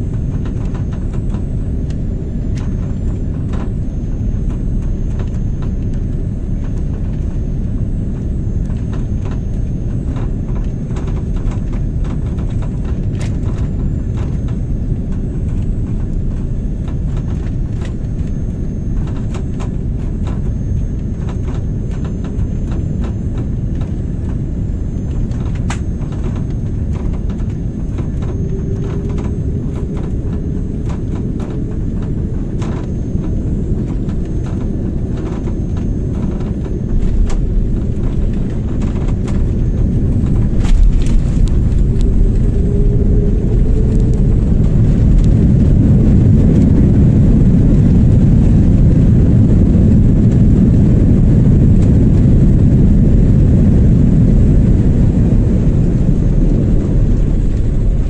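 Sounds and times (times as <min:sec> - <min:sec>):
jet cabin rumble: 0:00.0 - 0:58.0.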